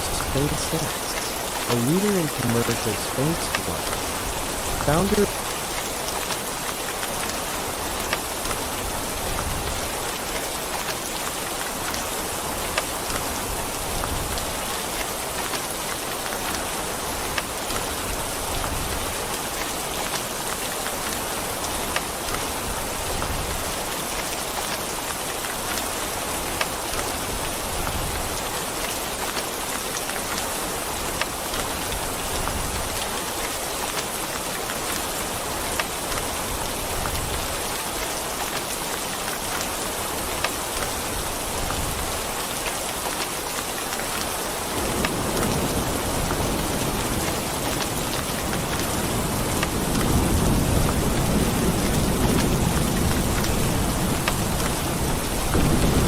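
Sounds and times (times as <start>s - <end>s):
close raindrop impacts: 0.0s - 56.0s
steady rain hiss: 0.0s - 56.0s.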